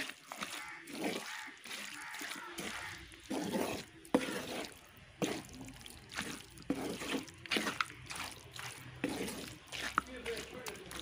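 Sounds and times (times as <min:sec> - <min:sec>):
spatula scraping thick curry: 0:00.0 - 0:11.0.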